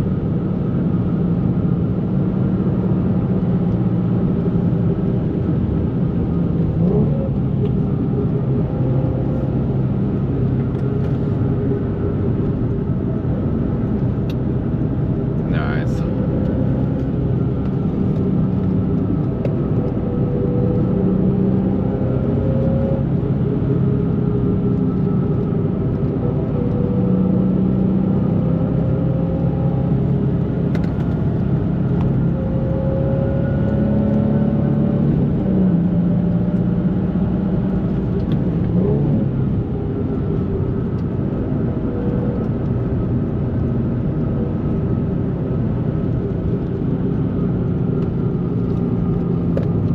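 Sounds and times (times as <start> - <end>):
car engine droning in cabin: 0.0 - 49.9.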